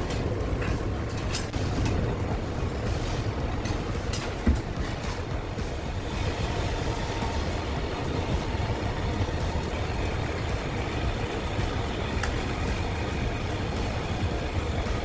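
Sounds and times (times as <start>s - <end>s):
large fan rumbling: 0.0s - 15.0s.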